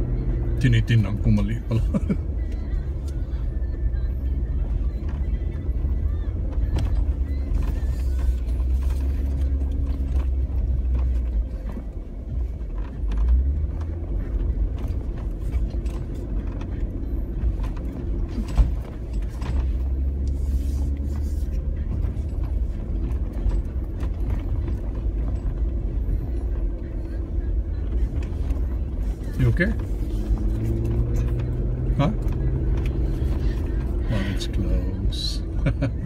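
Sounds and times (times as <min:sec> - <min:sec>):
car engine rumble: 0:00.0 - 0:36.0.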